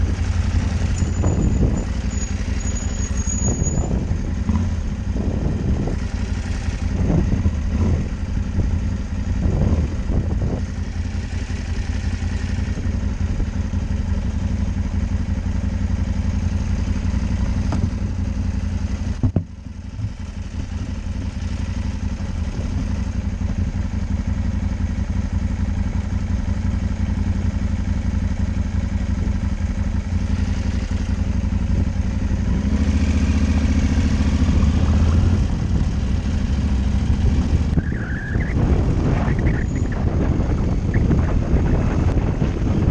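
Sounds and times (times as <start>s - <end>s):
motorcycle engine idling: 0.0s - 38.0s
motorcycle pulling away: 0.0s - 42.9s.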